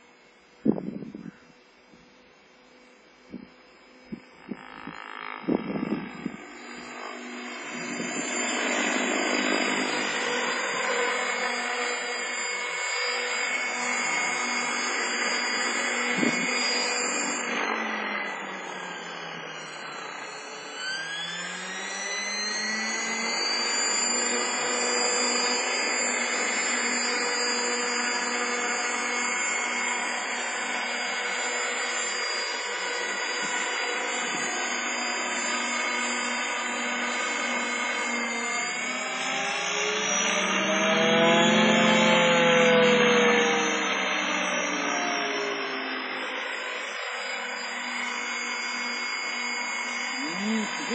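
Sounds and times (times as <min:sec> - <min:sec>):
rc helicopter motor and rotor whining: 0:00.0 - 0:50.9.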